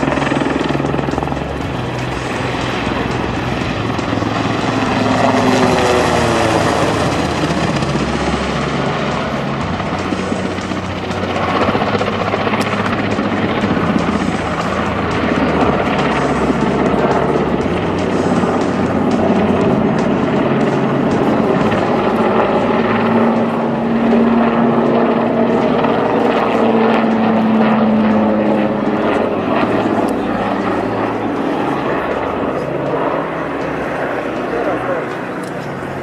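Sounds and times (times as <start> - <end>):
helicopter flying past: 0.0 - 36.0.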